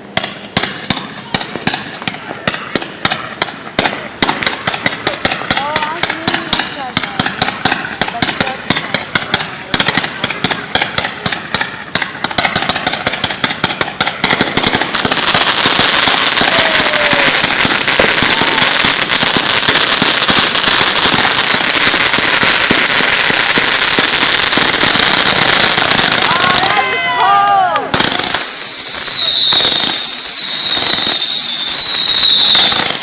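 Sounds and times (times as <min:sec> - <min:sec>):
firecrackers popping: 0:00.0 - 0:33.0.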